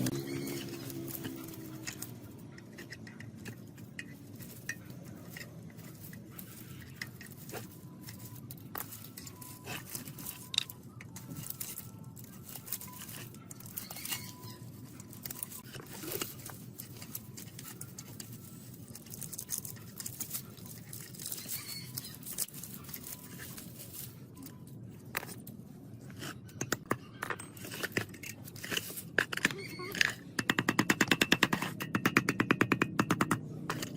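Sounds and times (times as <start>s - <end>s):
tools clicking tapping and scraping: 0.0s - 33.9s.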